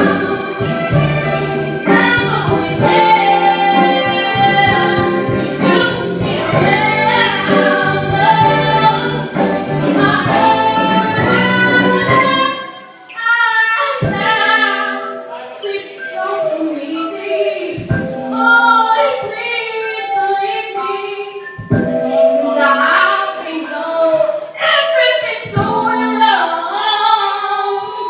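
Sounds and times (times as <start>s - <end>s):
voices singing in harmony: 0.0s - 28.0s.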